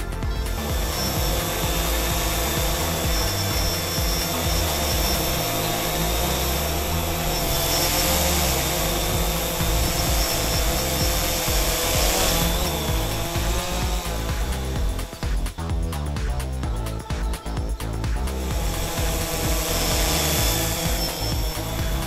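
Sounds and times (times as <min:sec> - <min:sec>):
quadcopter buzzing hum: 0:00.0 - 0:22.0.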